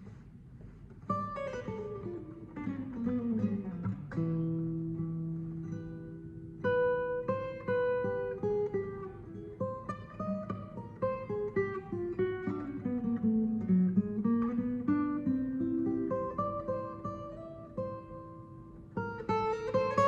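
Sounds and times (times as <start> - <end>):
acoustic guitar picked melody: 0.0 - 20.0.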